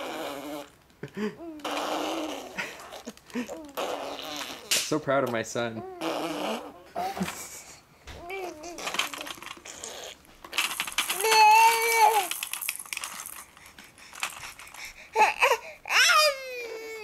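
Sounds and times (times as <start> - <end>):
baby blowing raspberries: 0.0 - 0.8, 1.4 - 5.0, 5.9 - 15.9
baby humming: 0.0 - 4.8, 5.8 - 12.4, 14.5 - 17.0.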